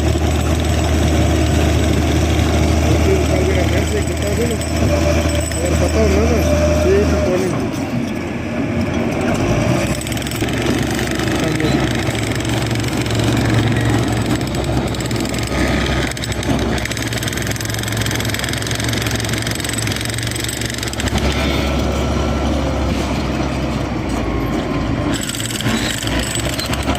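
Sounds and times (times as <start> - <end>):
bulldozer diesel engine running: 0.0 - 26.9.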